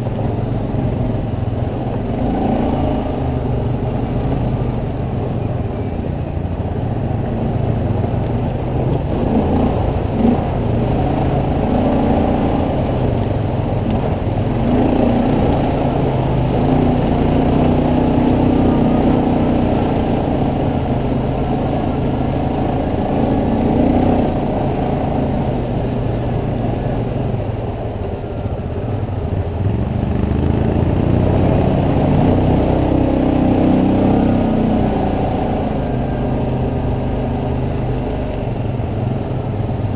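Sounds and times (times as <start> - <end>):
quad bike engine revving: 0.0 - 5.8, 6.4 - 39.9.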